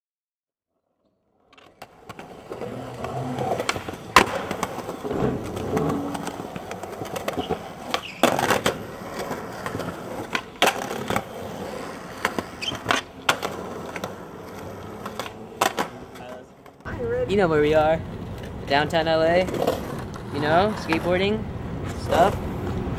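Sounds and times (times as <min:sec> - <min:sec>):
skateboard wheels rolling on concrete: 0:01.4 - 0:22.9
skateboard clacks: 0:01.5 - 0:22.9.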